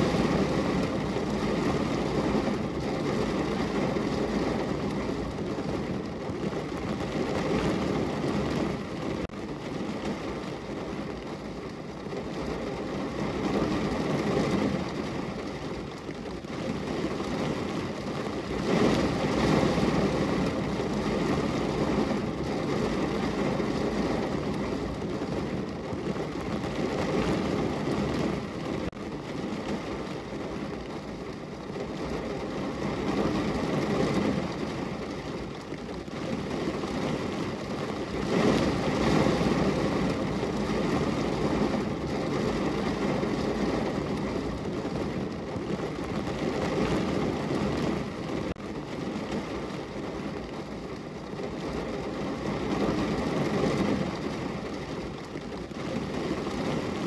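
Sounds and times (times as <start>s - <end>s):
rain pattering on a window: 0.0s - 57.0s.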